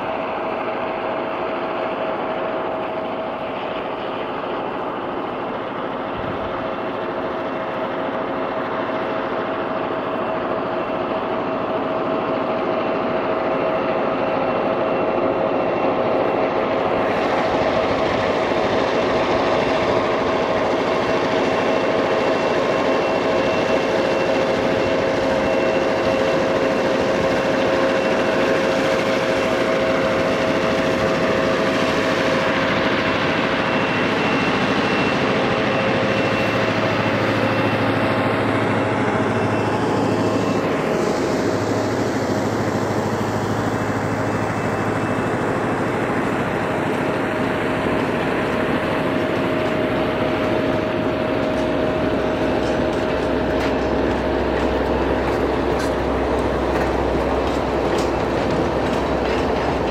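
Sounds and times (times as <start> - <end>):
train running: 0.0 - 59.9.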